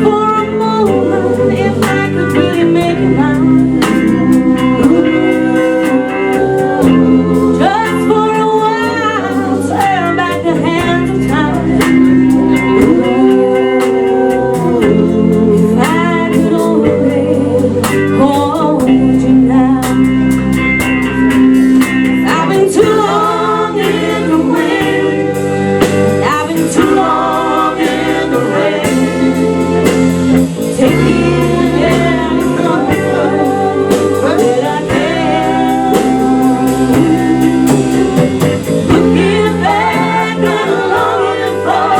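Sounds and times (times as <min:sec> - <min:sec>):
bass: 0:00.0 - 0:41.9
drums: 0:00.0 - 0:41.9
guitar: 0:00.0 - 0:41.9
singer: 0:00.0 - 0:41.9.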